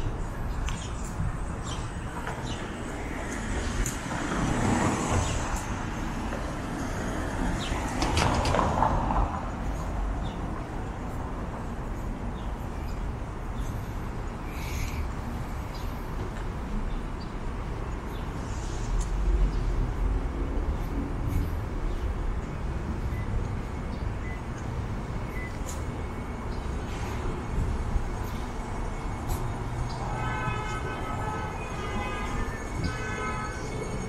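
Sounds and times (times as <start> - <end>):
cars passing: 0.0 - 34.0
low steady traffic rumble: 0.0 - 34.0.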